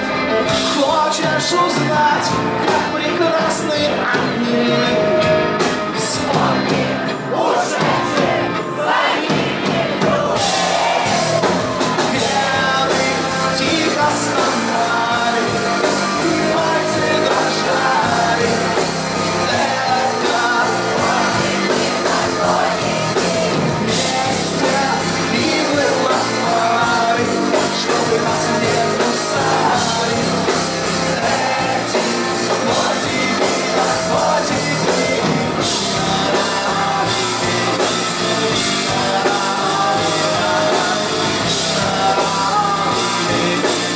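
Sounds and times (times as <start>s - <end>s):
lead vocal singing: 0.0s - 43.9s
live rock band playing: 0.0s - 43.9s.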